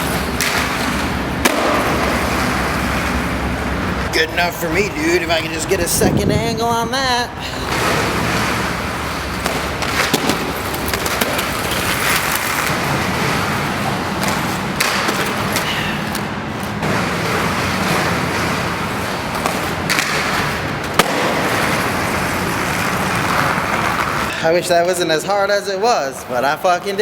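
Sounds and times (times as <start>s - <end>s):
skate wheels rolling on pavement: 0.0s - 27.0s.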